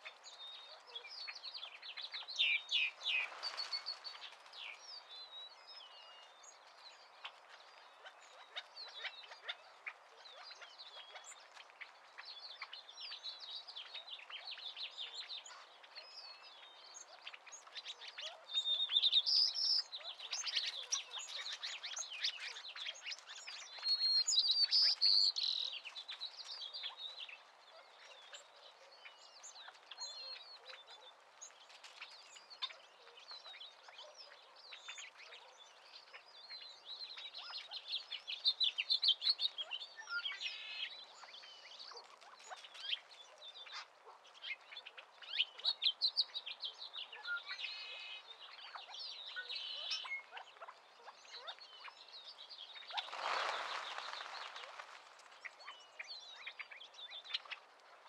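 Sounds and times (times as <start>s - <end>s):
small birds chirping and singing: 0.0s - 58.0s.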